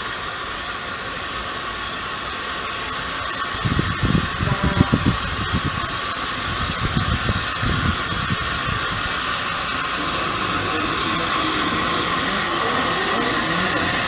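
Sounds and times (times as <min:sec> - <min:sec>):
steam hissing: 0:00.0 - 0:14.0
steam locomotive exhaust chuffs: 0:00.0 - 0:14.0.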